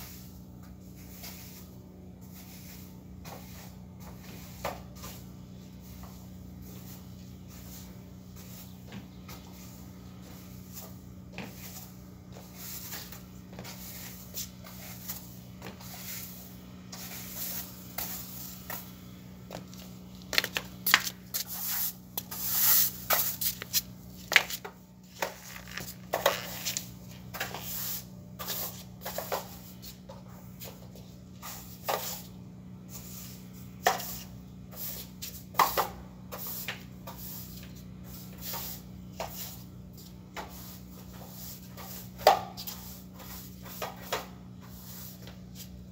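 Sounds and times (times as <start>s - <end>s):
broom sweeping hard floor: 0.0s - 45.9s.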